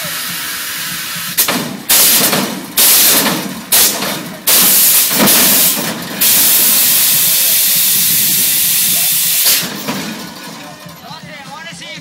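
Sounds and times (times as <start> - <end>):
air suspension valves hissing: 0.0 - 9.9.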